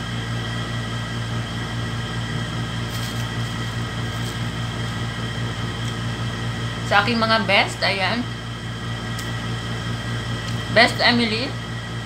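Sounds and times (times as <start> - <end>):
appliance motor humming: 0.0 - 12.0.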